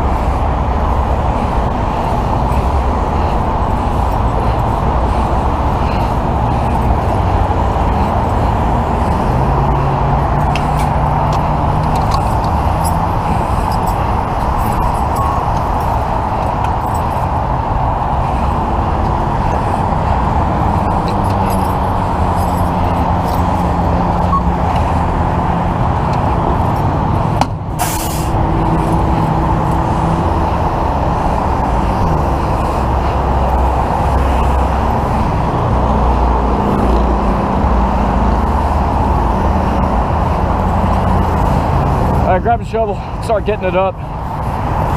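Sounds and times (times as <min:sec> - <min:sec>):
road traffic noise: 0:00.0 - 0:44.9
truck engine: 0:00.0 - 0:44.9.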